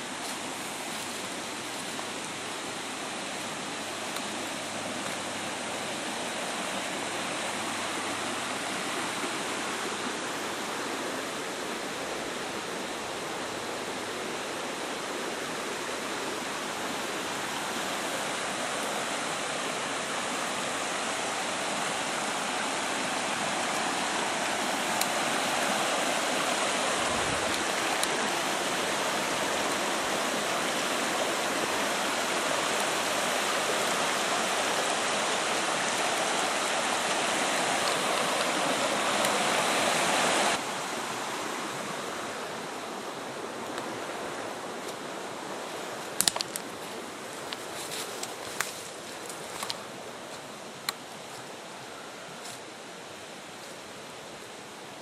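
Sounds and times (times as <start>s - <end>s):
stream rushing over stones: 0.0s - 55.0s.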